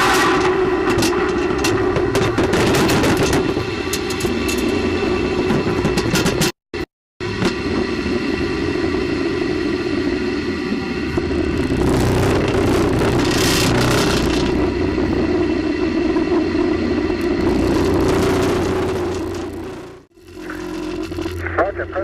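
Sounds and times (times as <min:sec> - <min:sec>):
spacecraft cabin rumble: 0:00.5 - 0:06.5, 0:07.2 - 0:22.0.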